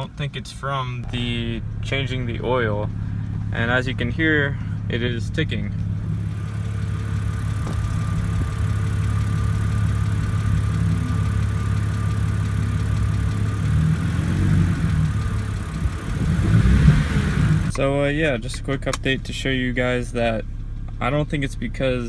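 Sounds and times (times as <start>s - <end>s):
car engine idling: 0.0s - 22.0s
valvetrain ticking: 0.0s - 22.0s.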